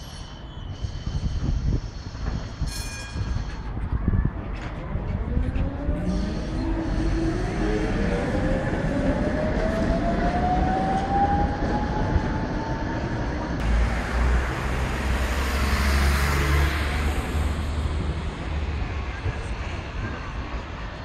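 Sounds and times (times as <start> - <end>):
rushing traffic noise: 0.0 - 21.0
tram motor whine: 0.0 - 21.0
low street rumble: 3.4 - 21.0.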